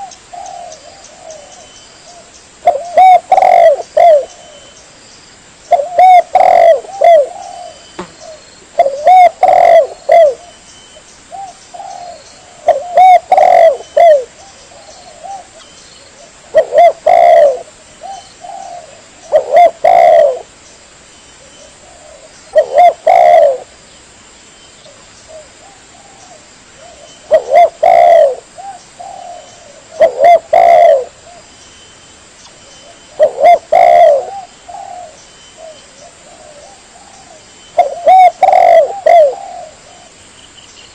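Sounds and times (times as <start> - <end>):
dove cooing: 0.0 - 4.8, 5.7 - 10.6, 11.3 - 20.5, 21.4 - 23.7, 24.9 - 31.5, 32.8 - 40.2.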